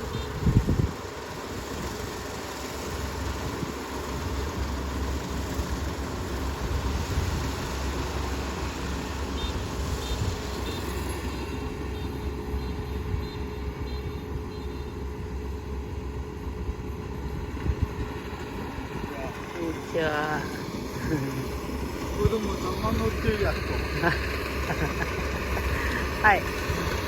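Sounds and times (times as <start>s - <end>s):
combine harvester engine hum: 0.0s - 27.0s.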